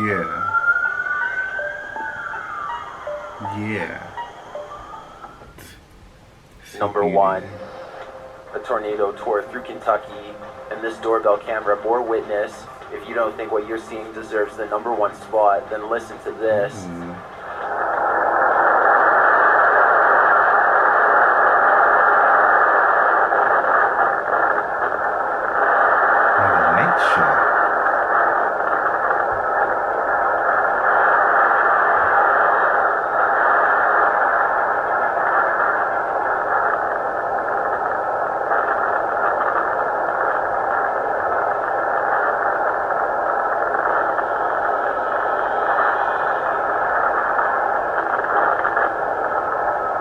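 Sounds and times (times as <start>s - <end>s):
muffled roar of strong wind: 6.6s - 50.0s.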